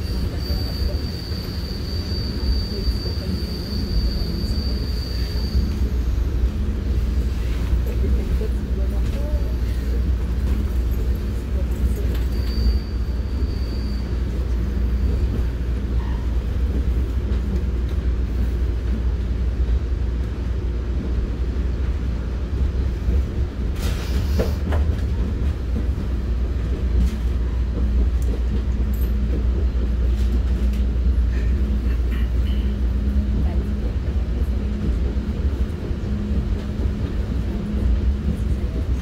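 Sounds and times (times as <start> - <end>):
train rumble from inside: 0.0 - 39.0.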